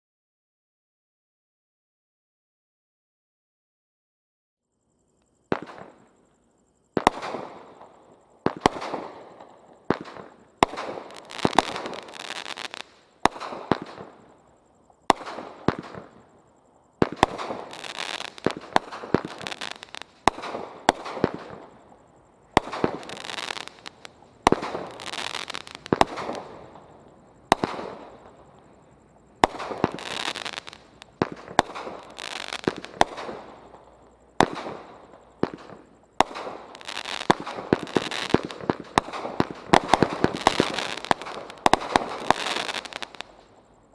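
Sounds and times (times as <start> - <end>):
fireworks launching and bursting: 5.5 - 6.2, 6.9 - 43.6.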